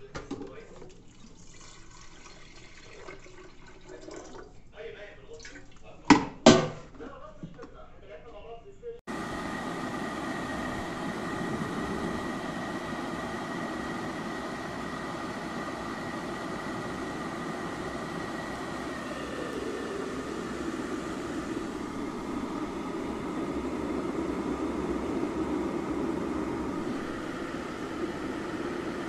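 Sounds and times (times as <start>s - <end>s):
electric kettle heating water: 0.0s - 4.6s, 9.1s - 29.0s.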